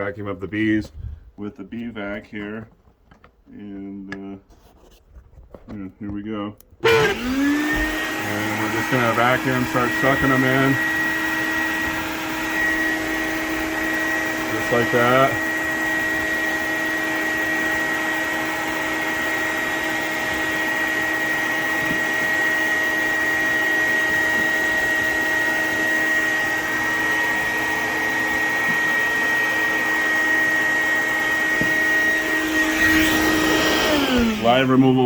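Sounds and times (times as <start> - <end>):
vacuum motor whine: 6.8 - 35.0.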